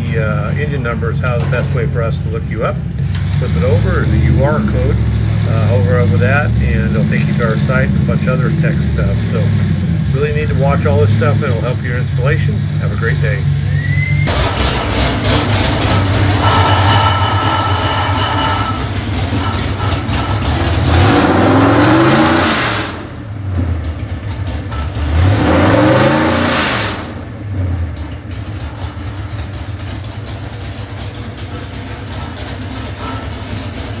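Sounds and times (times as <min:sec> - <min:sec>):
engine idling and revving: 0:00.0 - 0:34.0.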